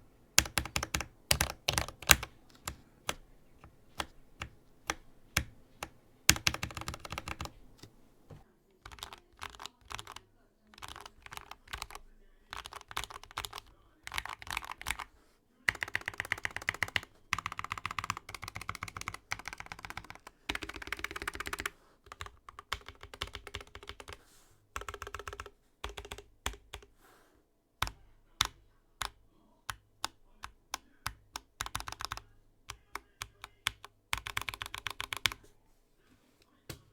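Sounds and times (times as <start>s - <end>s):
mechanical keyboard typing: 0.4s - 15.1s, 15.7s - 24.2s, 24.8s - 26.9s, 27.8s - 35.4s.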